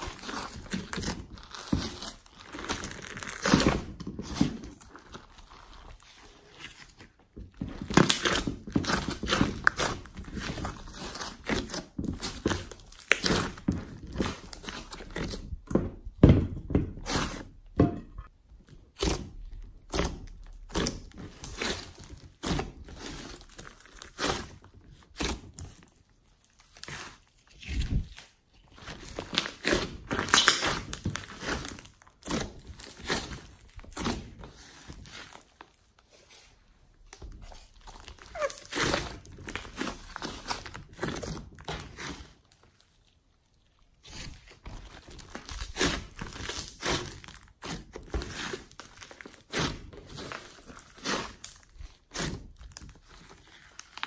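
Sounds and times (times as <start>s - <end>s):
slime squishing and crackling: 0.0s - 17.7s, 18.6s - 54.0s.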